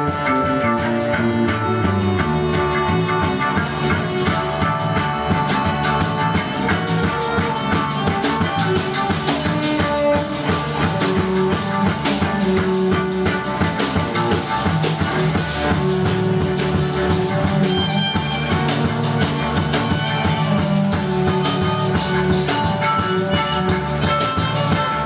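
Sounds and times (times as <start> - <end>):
rock music with drums and guitar: 0.0 - 25.0.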